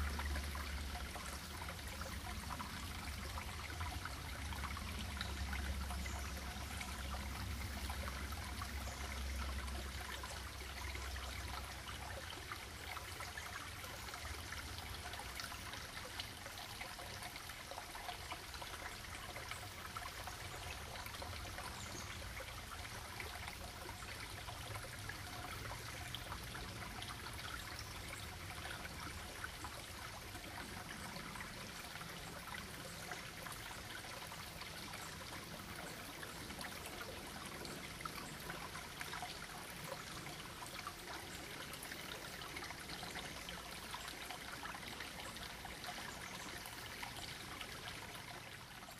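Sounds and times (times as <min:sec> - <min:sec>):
creek trickling over stones: 0:00.0 - 0:48.9.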